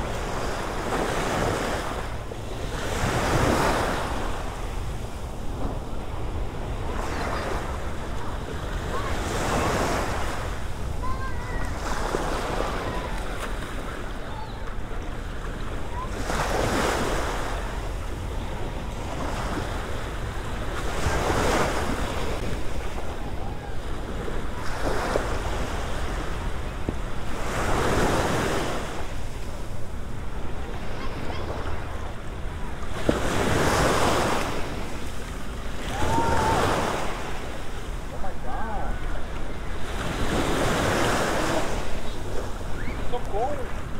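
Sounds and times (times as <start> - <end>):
waves washing onto sandy beach: 0.0 - 43.9.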